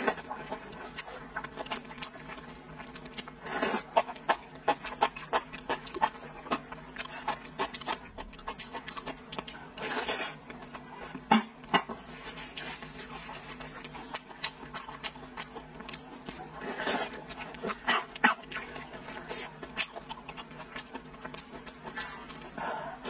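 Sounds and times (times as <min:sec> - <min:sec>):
wet chewing and lip-smacking: 0:00.1 - 0:22.6.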